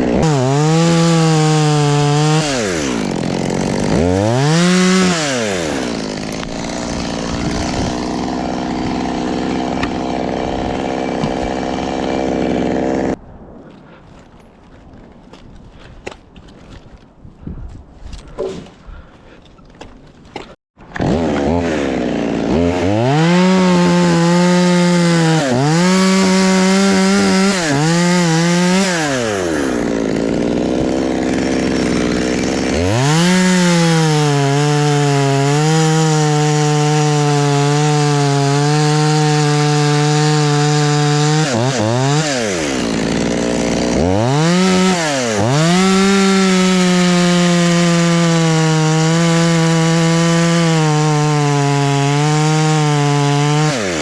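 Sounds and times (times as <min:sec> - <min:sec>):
chainsaw revving and idling: 0:00.0 - 0:13.2, 0:20.9 - 0:54.0.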